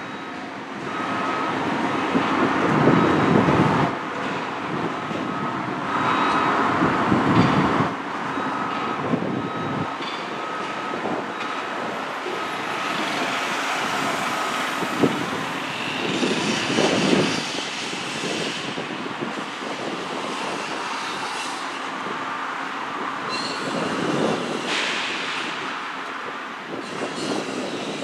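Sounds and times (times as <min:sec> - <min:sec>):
road vehicle rush: 0:00.0 - 0:28.0.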